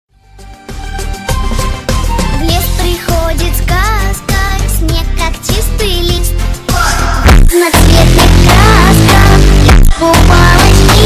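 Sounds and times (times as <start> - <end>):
background music with steady beat: 0.1 - 11.0.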